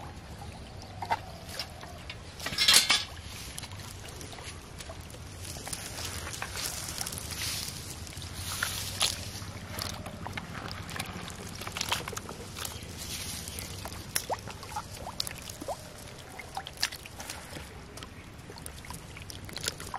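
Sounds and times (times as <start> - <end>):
small fish splashing in water: 3.1 - 19.9.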